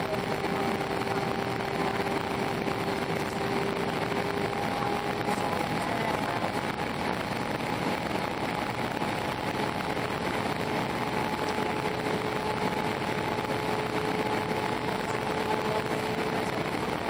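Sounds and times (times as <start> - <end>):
aircraft cabin air rush: 0.0 - 17.0
faint steady whining tones: 0.0 - 17.0.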